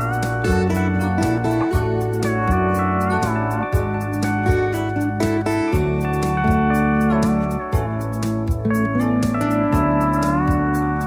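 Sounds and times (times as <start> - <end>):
slide guitar over a beat: 0.0 - 11.0.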